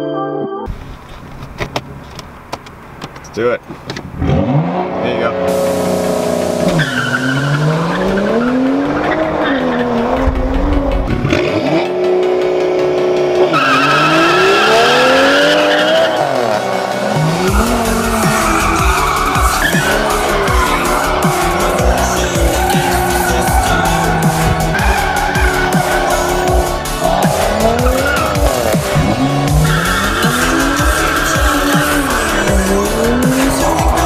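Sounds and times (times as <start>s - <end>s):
tires squealing: 3.8s - 34.0s
car engine revving hard: 4.1s - 34.0s.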